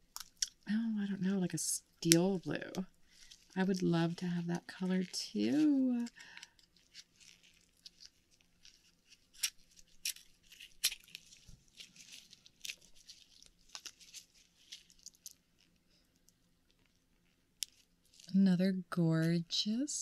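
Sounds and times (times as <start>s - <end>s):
wet crackling and squishing: 0.0s - 18.4s.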